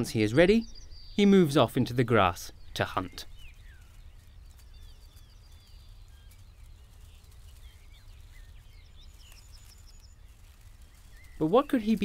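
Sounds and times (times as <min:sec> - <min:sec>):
high evenly spaced bird notes: 0:00.0 - 0:12.0
low wind rumble: 0:00.0 - 0:12.0
whistled bird chirps: 0:00.0 - 0:12.0.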